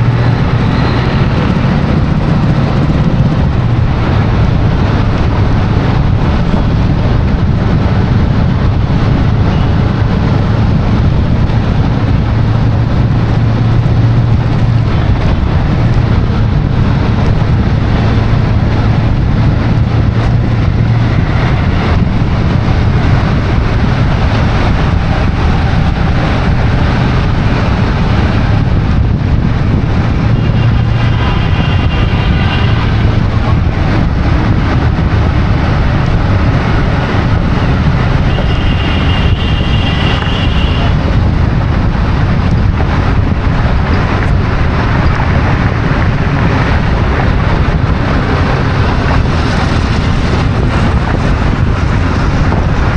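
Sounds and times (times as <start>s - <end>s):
low engine hum: 0.0s - 52.9s
road and wind noise: 0.0s - 52.9s.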